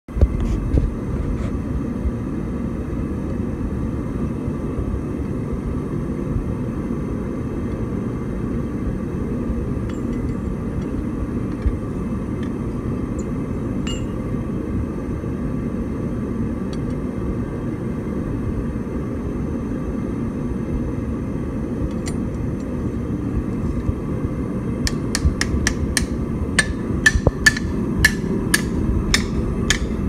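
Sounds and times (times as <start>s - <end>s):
low rumble of forge shop: 0.0s - 30.0s.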